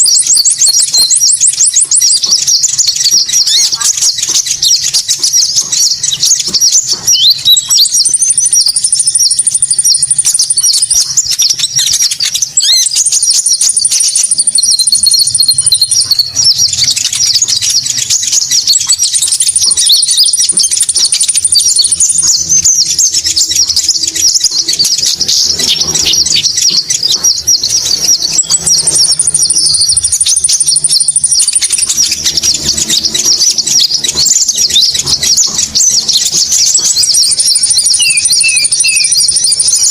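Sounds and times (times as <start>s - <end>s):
rapid high-pitched bird chirping: 0.0s - 39.9s
thin high bird trill: 0.0s - 39.9s.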